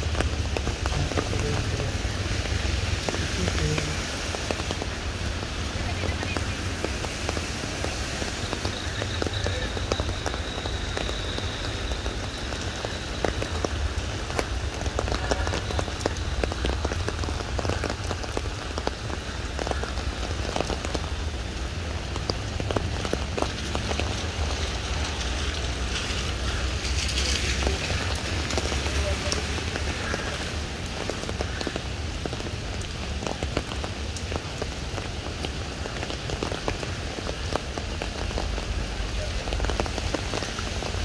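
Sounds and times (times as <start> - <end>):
raindrops ticking close by: 0.0 - 41.0
steady rain: 0.0 - 41.0.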